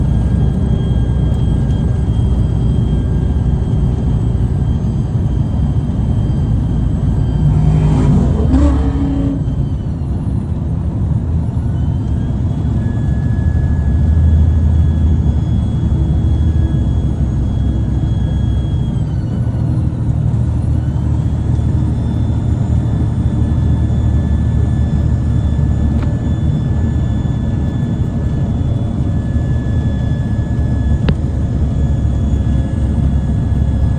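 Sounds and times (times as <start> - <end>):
truck diesel engine running: 0.0 - 33.9
turbocharger whistle: 0.0 - 33.9.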